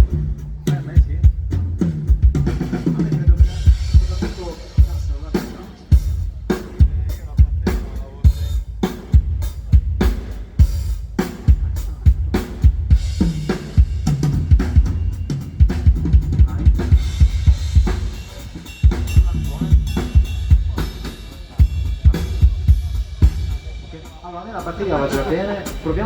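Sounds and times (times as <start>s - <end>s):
acoustic drum kit beat: 0.0s - 26.0s.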